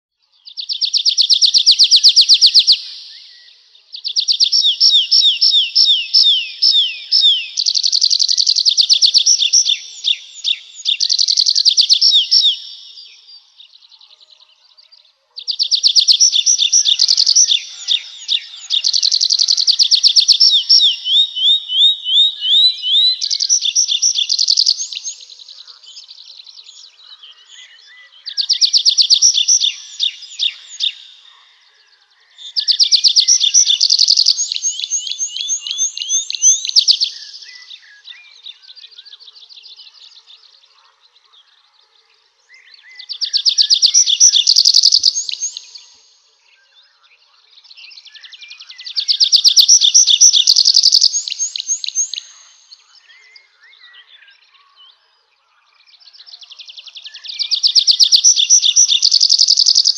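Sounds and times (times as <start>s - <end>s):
songbird trilling: 0.5s - 41.4s, 42.6s - 54.6s, 56.0s - 59.9s.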